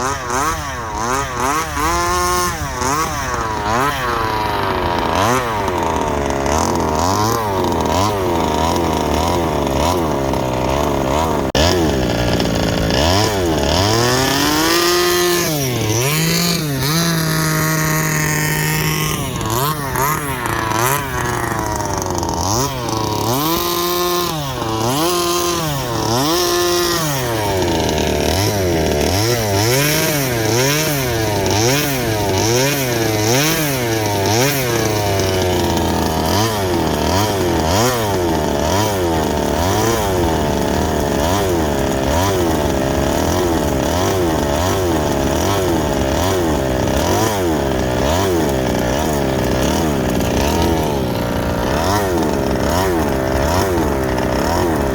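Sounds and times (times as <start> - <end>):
small two-stroke engine revving: 0.0 - 54.9.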